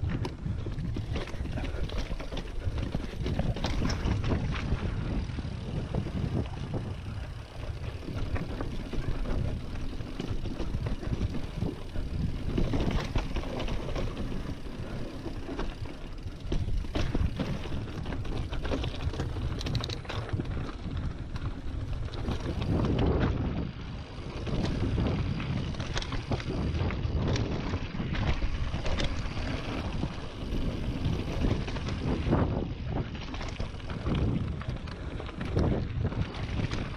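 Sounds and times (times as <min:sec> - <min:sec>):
bike rattling over stones: 0:00.0 - 0:36.9
wind buffeting microphone: 0:00.0 - 0:36.9.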